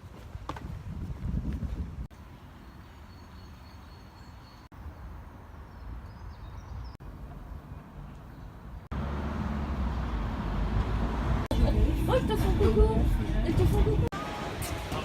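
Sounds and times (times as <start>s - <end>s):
low rumble of wind or traffic: 0.0s - 14.2s.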